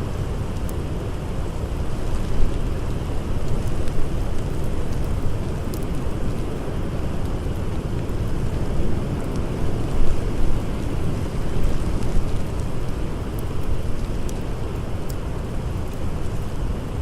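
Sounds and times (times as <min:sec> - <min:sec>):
faint campfire crackles: 0:00.0 - 0:17.0.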